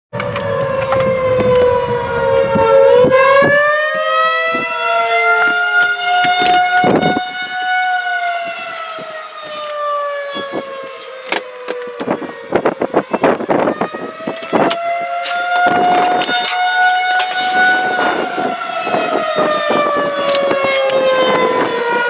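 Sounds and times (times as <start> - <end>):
warning siren wailing: 0.1 - 22.0.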